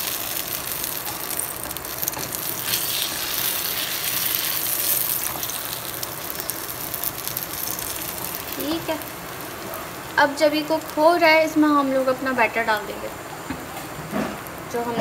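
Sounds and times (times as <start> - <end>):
omelette sizzling in oil: 0.0 - 15.0.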